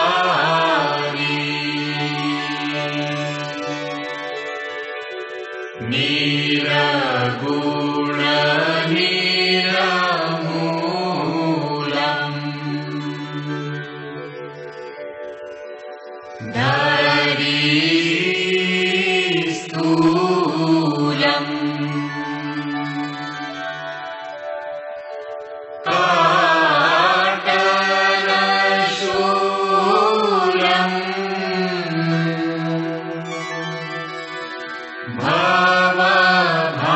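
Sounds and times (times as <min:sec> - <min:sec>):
person singing devotional chant: 0:00.0 - 0:04.5, 0:05.8 - 0:14.2, 0:16.4 - 0:23.5, 0:25.8 - 0:36.9
steady sustained drone: 0:00.0 - 0:36.9.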